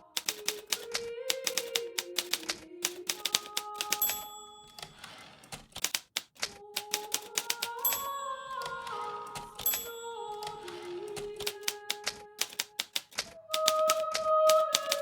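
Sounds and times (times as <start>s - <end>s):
manual typewriter typing: 0.0s - 15.0s.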